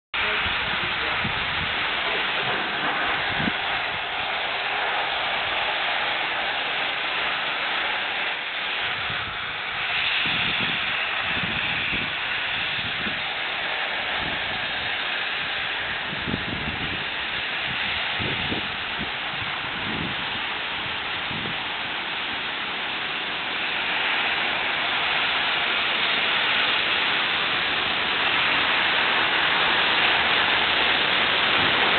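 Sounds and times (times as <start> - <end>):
steam locomotive hissing: 0.2 - 31.9.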